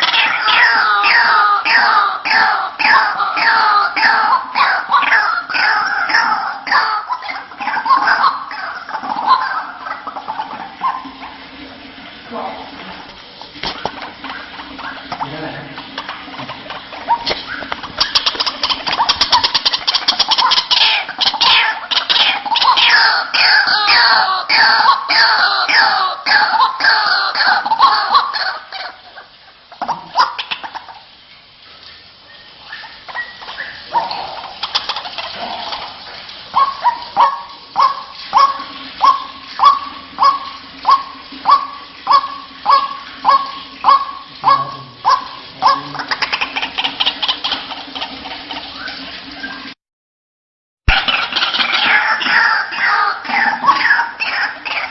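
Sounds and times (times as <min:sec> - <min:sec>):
waterhen calling: 0:00.0 - 0:49.8, 0:50.9 - 0:54.9.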